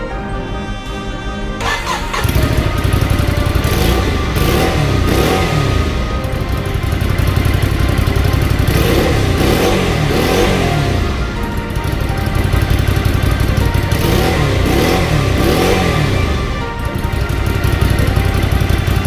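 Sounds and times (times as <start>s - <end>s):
engine throttle blips: 1.6s - 19.0s
motorcycle engine starting: 1.6s - 19.0s.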